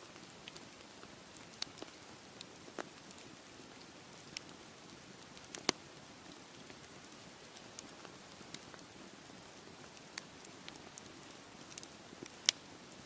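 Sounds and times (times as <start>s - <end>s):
bonfire crackling and popping: 0.0s - 13.0s.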